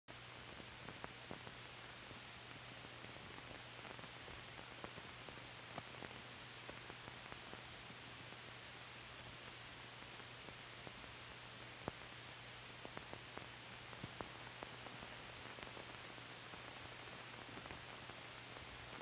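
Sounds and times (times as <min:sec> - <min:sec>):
film soundtrack hiss: 0:00.1 - 0:19.0.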